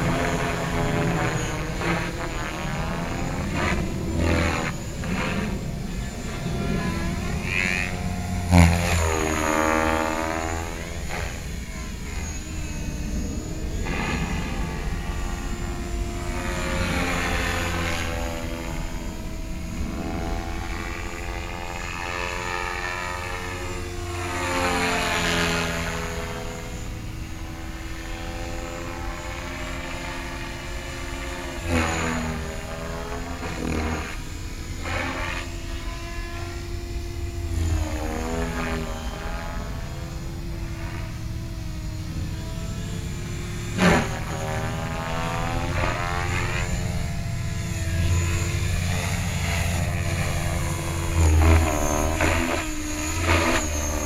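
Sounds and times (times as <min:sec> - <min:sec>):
model helicopter rotor whining: 0:00.0 - 0:54.0.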